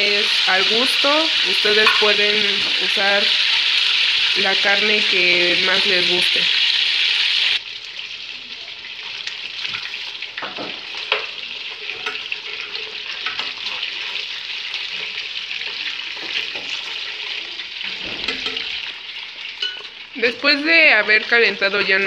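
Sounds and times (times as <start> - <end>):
meat sizzling in a clay pot: 0.0 - 22.0.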